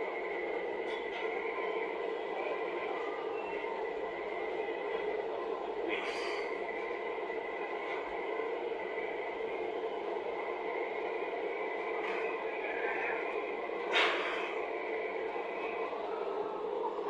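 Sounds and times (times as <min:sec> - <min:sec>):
machine humming with high whine: 0:00.0 - 0:17.0.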